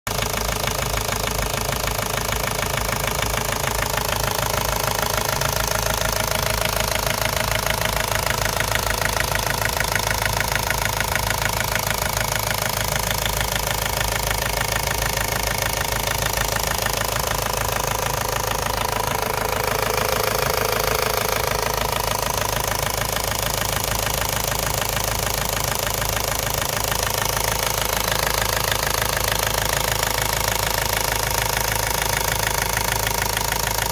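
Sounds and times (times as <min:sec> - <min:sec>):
diesel engine idling with knock: 0:00.1 - 0:33.9.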